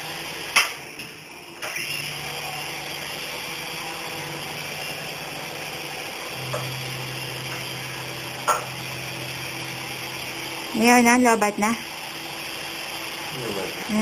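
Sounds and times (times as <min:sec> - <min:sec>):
small helicopter rotors whirring: 0:00.0 - 0:14.0.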